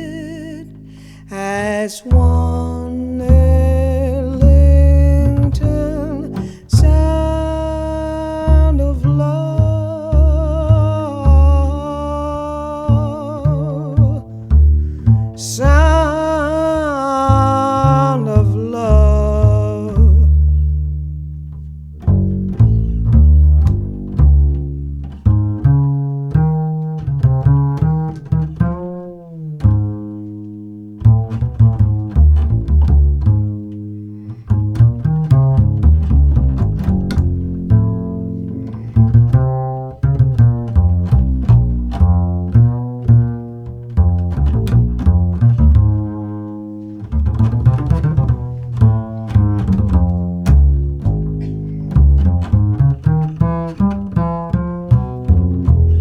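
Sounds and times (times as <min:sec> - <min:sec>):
plucked double bass: 0:00.0 - 0:56.0.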